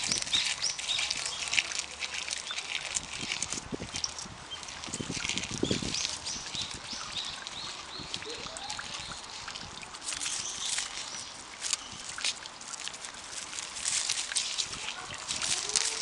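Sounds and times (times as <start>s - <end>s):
deer munching leaves: 0.0s - 16.0s
rustle of leaves: 0.0s - 16.0s.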